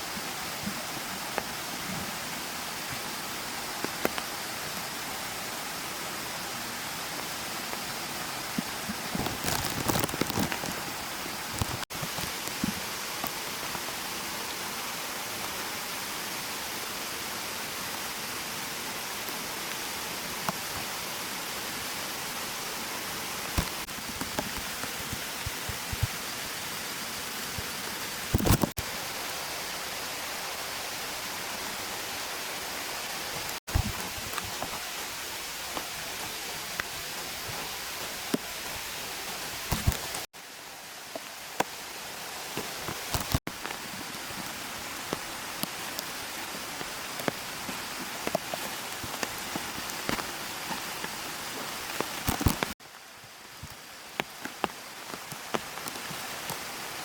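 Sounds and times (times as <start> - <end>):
hiss of water: 0.0 - 57.0
mountain stream rushing: 0.0 - 57.0.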